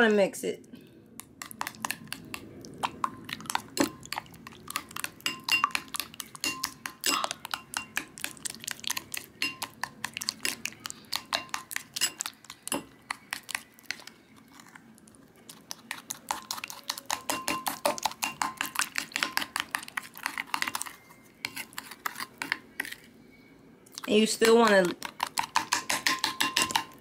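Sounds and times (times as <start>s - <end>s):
spoon beating eggs in glass bowl: 1.2s - 23.1s, 24.0s - 27.0s.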